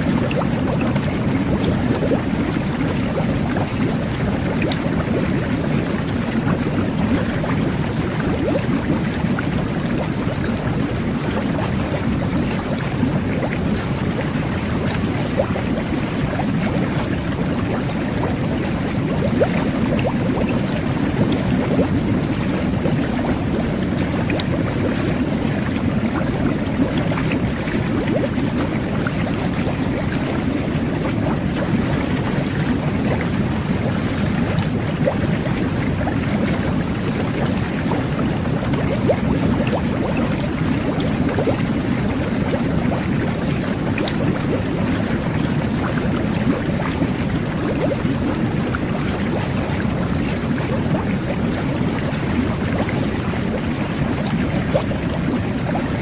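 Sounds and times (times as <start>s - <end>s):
jet bath water churning: 0.0s - 56.0s.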